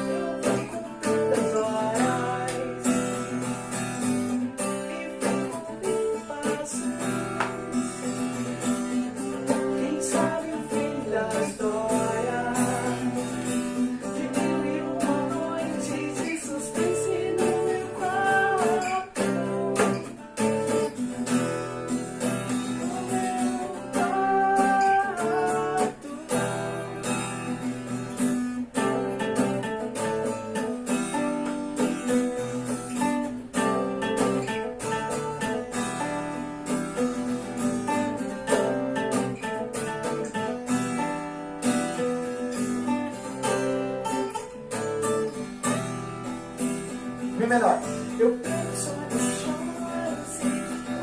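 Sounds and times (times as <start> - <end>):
guitar strumming chords: 0.0 - 51.0.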